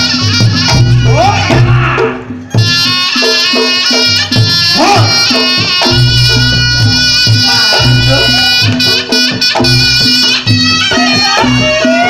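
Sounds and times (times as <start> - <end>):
gong-chime percussion: 0.0 - 12.0
shrill double-reed melody: 0.0 - 12.0.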